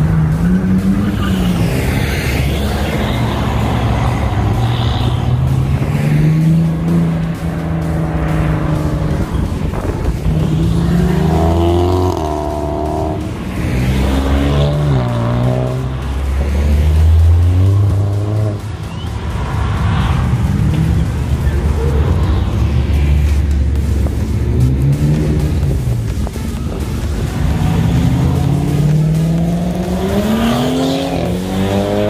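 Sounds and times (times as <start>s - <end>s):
background music: 0.0s - 32.0s
car engines revving past: 0.0s - 32.0s.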